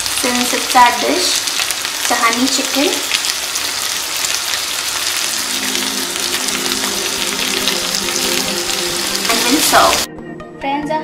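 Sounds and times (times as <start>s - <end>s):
food sizzling in a frying pan: 0.0s - 10.1s.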